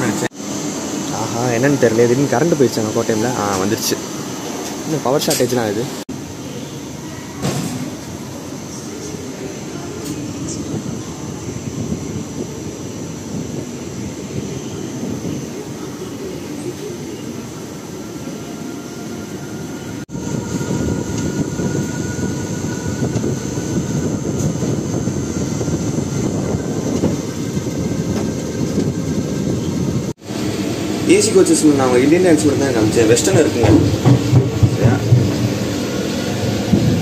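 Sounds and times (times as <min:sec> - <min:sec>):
passenger train rumbling: 0:00.0 - 0:37.0.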